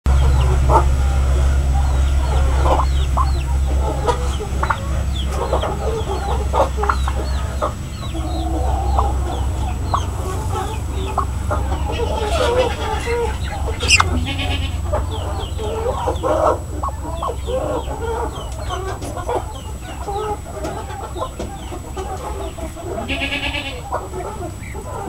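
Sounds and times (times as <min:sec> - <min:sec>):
poultry clucking: 0:00.1 - 0:25.0
steady low hum: 0:00.1 - 0:25.0.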